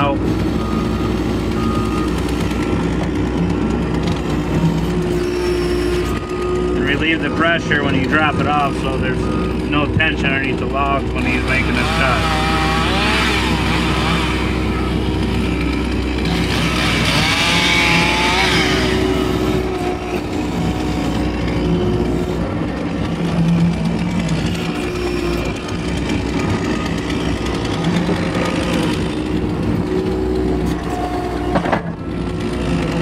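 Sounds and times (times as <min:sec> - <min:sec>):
wavering hydraulic whine: 0:00.0 - 0:10.6, 0:11.2 - 0:33.0
diesel engine running under load: 0:00.0 - 0:33.0.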